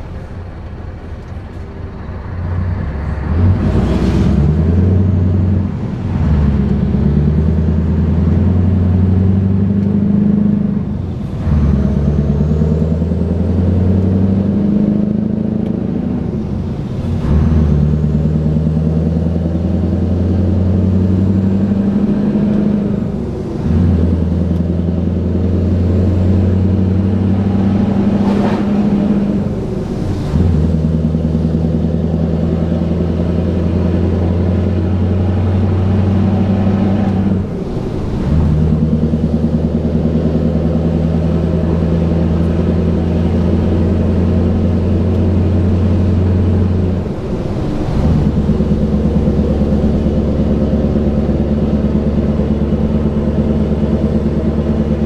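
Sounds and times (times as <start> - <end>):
diesel truck engine accelerating: 0.0 - 55.0.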